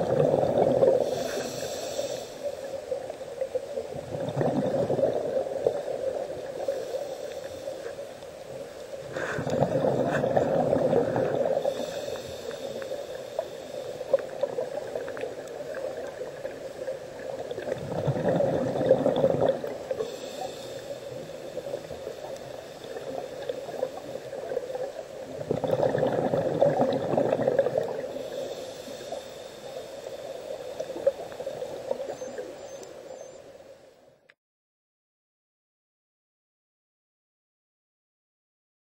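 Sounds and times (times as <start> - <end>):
underwater bubbles gurgling: 0.0 - 33.5
faint steady tone: 0.0 - 34.4.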